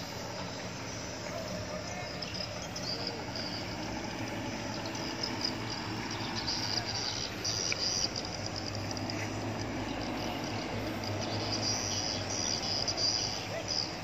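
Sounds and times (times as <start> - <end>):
insects trilling: 0.0 - 14.0
low hum of vehicle engines: 0.0 - 14.0.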